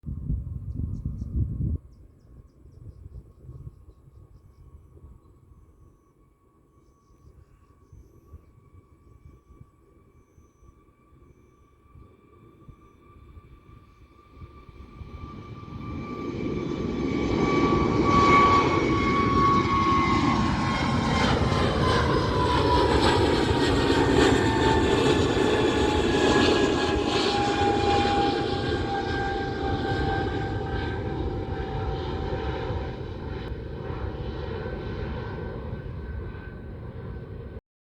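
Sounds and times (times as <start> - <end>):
jet engines rumbling with whine: 0.1 - 37.6.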